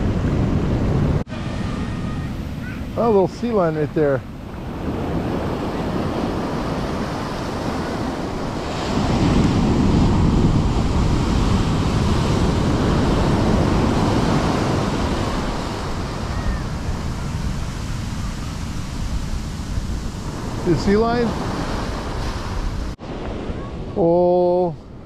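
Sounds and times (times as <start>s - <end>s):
whitewash rushing up sand: 0.0s - 24.8s
ocean surf breaking: 0.0s - 25.0s.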